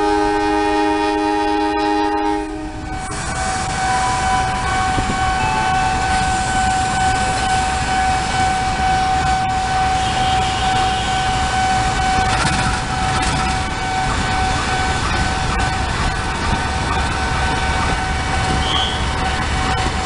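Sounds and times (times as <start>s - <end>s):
train rumbling past: 0.0s - 20.0s
crossing signal warning tone: 1.5s - 20.0s.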